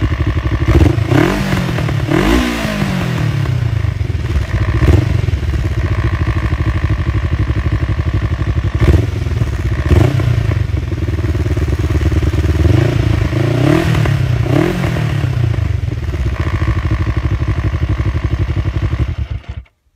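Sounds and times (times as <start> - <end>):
motorcycle engine revving: 0.0 - 19.7.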